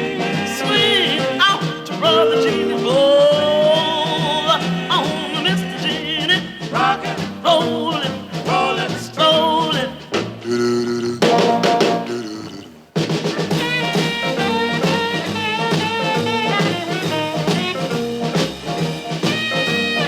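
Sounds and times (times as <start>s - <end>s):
swing band instrumental music: 0.0s - 20.0s.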